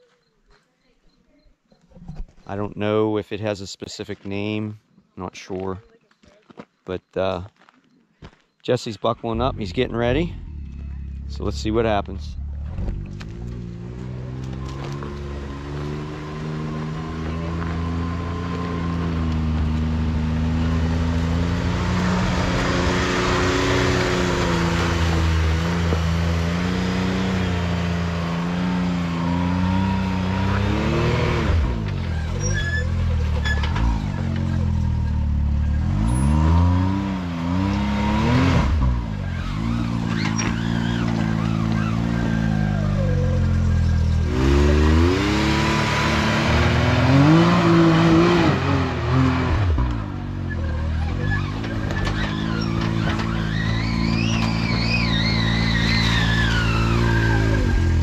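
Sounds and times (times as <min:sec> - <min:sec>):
engine revving under load: 0:09.3 - 0:58.0.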